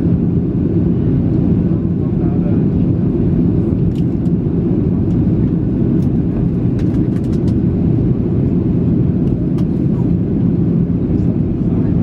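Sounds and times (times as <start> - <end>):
jet cabin engine roar: 0.0 - 12.0.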